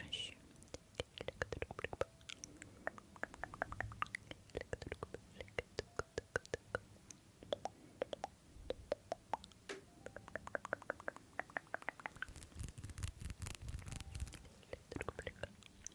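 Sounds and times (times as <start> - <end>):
chewing and mouth sounds: 0.5 - 15.9.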